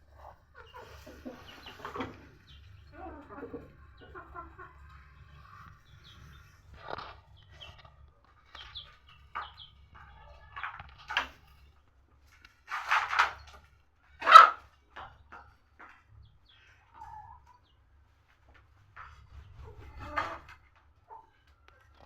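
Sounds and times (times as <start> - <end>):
chickens clucking and squawking: 0.0 - 22.0.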